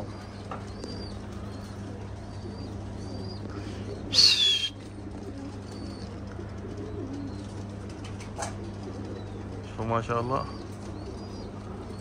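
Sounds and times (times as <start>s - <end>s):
pigeons cooing: 0.0s - 12.0s
steady low hum: 0.0s - 12.0s.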